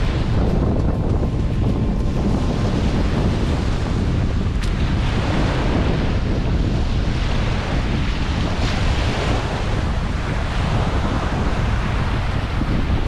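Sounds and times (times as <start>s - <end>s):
surf on pebble beach: 0.0s - 13.0s
wind buffeting microphone: 0.0s - 13.0s.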